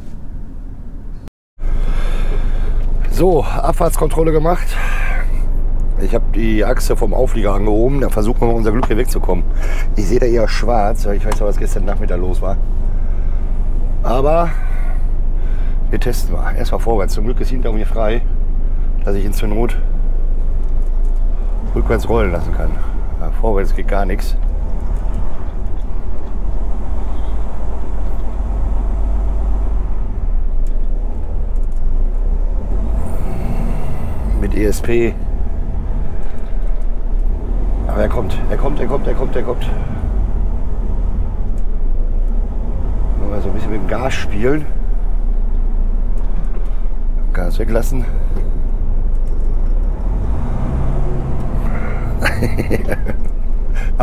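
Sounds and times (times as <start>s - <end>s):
diesel truck engine rumbling: 0.0s - 54.0s
steady low hum: 0.0s - 54.0s.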